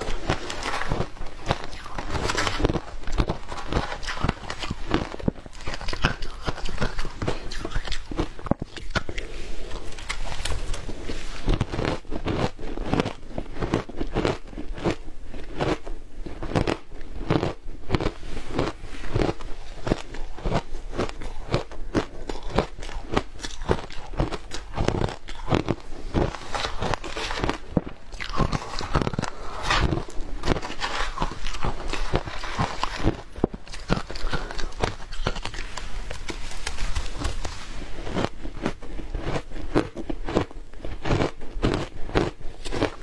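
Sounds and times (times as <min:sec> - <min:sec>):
shaved ice being chewed: 0:00.0 - 0:43.0.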